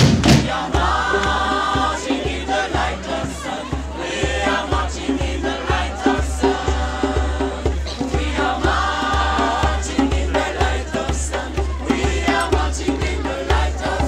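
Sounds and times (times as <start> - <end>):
steady low beat: 0.0 - 14.0
voices singing like choir: 0.0 - 14.0.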